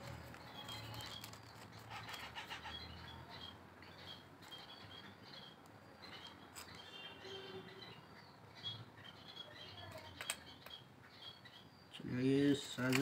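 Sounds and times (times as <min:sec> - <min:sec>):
parrot chick chirping: 0:00.0 - 0:11.9.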